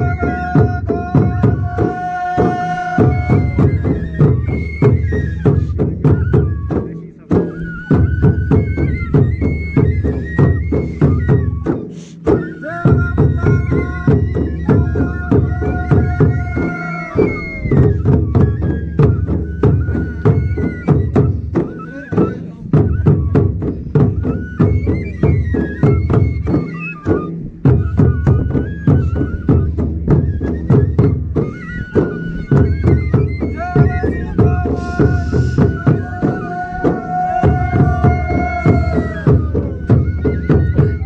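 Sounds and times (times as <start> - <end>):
drums beating fast rhythm: 0.0 - 41.0
wind instrument melody: 0.0 - 41.0.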